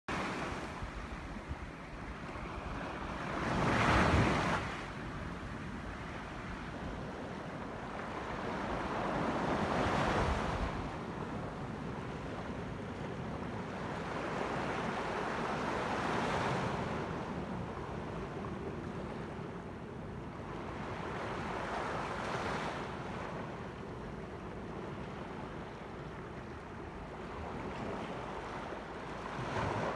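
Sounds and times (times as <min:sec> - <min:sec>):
waves washing up a beach: 0:00.1 - 0:29.9.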